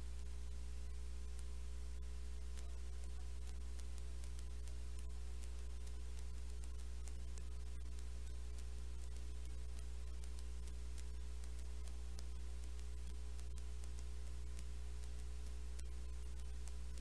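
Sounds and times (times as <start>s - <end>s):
electrical hum: 0.0s - 17.0s
faint clicks: 0.0s - 17.0s
static hiss: 0.0s - 17.0s.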